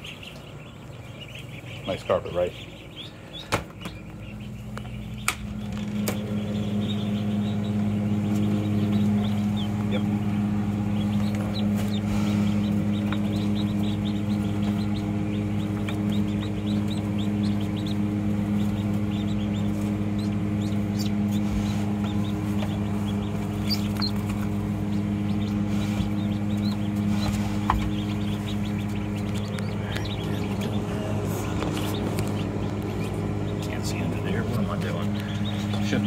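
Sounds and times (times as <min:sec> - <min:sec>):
ducklings peeping: 0:00.0 - 0:36.0
low electrical hum: 0:00.0 - 0:36.0.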